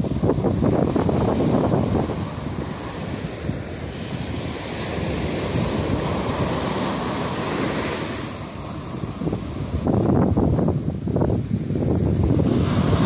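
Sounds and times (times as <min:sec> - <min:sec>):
small waves breaking on sand: 0:00.0 - 0:13.0
wind rumble on microphone: 0:00.0 - 0:13.0.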